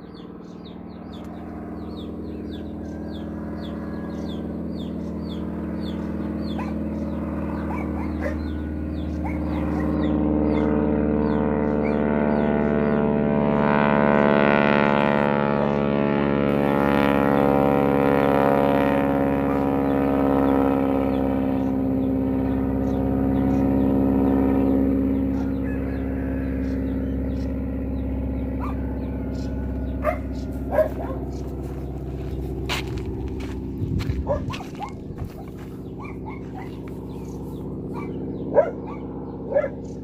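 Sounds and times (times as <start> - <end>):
aircraft radial engine in flight: 0.0 - 40.0.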